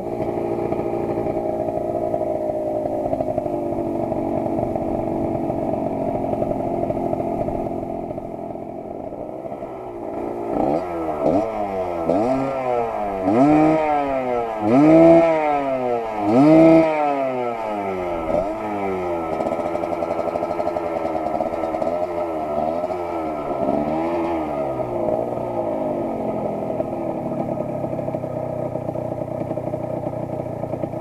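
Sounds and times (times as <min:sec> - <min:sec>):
two-stroke engine revving: 0:00.0 - 0:31.0.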